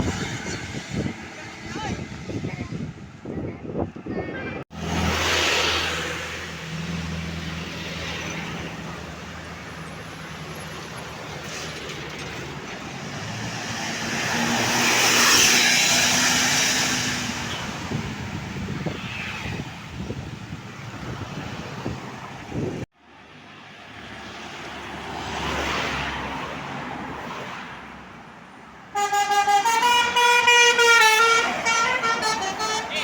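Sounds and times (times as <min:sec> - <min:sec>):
vehicles passing by: 0:00.0 - 0:33.0.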